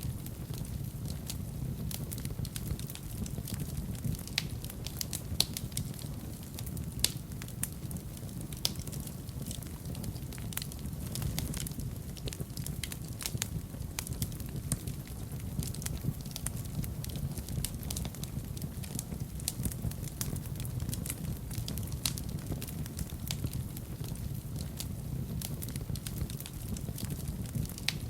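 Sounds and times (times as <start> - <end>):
fire crackling and popping: 0.0 - 28.0
low rumble of flame: 0.0 - 28.0.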